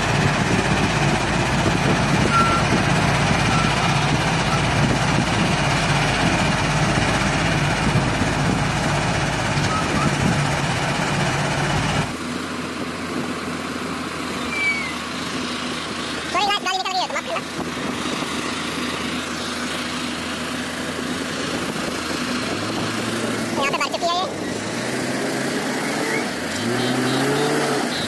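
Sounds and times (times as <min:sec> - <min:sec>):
diesel engines running: 0:00.0 - 0:28.0.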